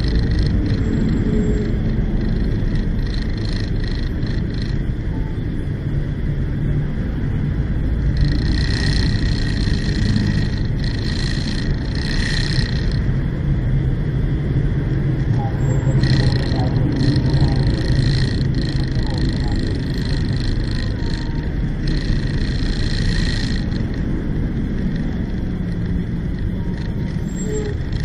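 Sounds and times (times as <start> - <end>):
city traffic rumble: 0.0 - 28.0.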